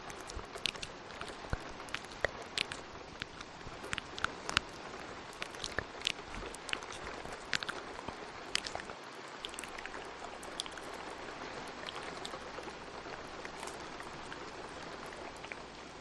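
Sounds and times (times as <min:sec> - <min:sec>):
wet mouth clicks and pops: 0:00.0 - 0:15.6
rain falling: 0:00.0 - 0:16.0.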